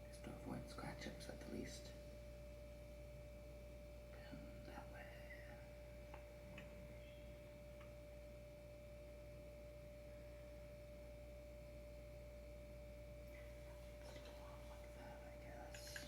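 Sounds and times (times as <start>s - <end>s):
faint high-pitched whine: 0.0s - 16.0s
low hum: 0.0s - 16.0s.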